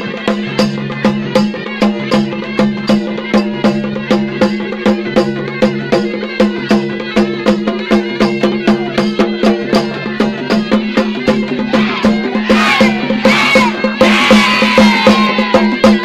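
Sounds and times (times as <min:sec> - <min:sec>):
drums beating fast rhythm: 0:00.0 - 0:16.0.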